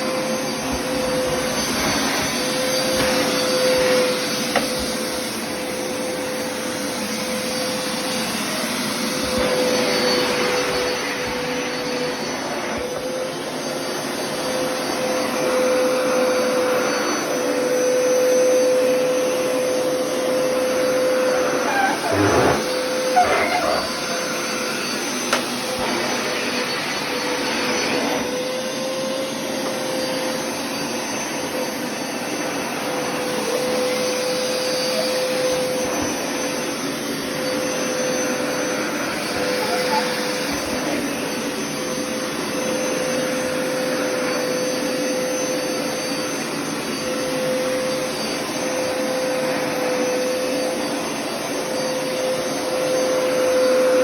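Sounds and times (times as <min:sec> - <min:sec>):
vacuum cleaner motor whining: 0:00.0 - 0:54.0.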